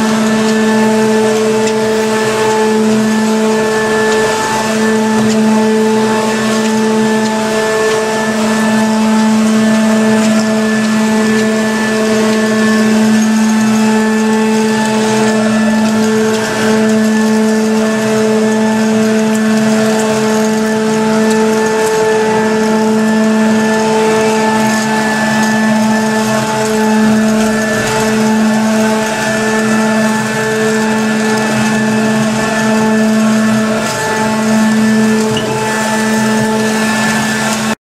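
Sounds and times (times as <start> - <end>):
floor scrubber motor hum: 0.0 - 37.8.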